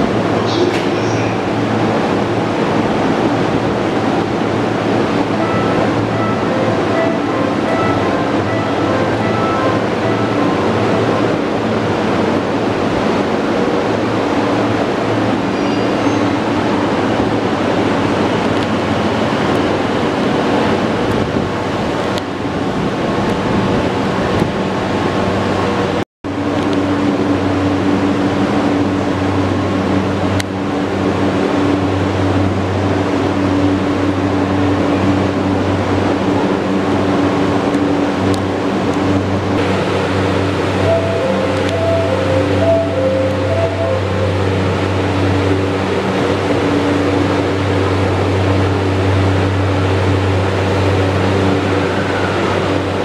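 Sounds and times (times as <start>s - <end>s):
electric train humming: 0.0s - 53.0s.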